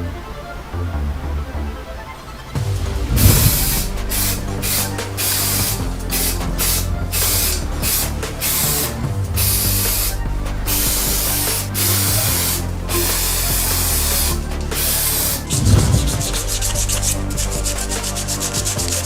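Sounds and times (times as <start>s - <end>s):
spray can spraying: 3.2s - 19.0s.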